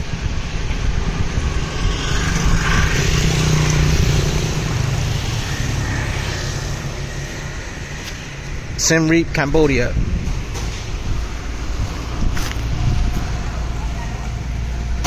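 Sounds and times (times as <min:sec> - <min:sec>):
street traffic: 0:00.0 - 0:15.0
vehicle engine rumbling: 0:00.0 - 0:15.0.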